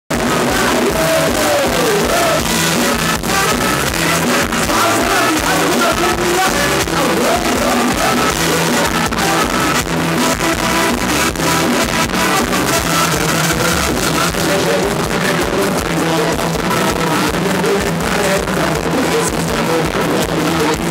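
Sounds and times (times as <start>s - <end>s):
drums keeping beat: 0.1s - 20.9s
live band dance music: 0.1s - 20.9s
person singing: 0.1s - 20.9s.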